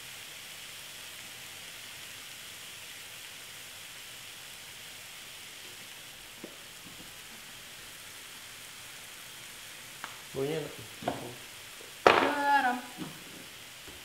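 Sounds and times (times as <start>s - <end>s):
filling sizzling in a frying pan: 0.0s - 14.0s.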